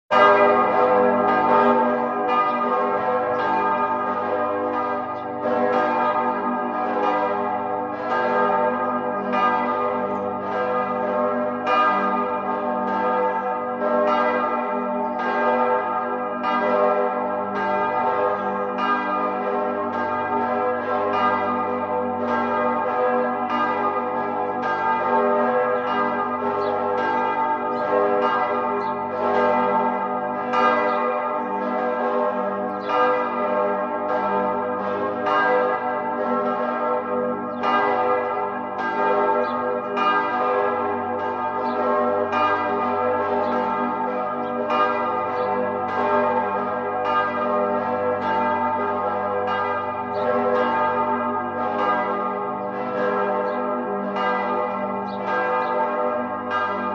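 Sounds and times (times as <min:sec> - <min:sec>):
church bells pealing: 0:00.1 - 0:56.9.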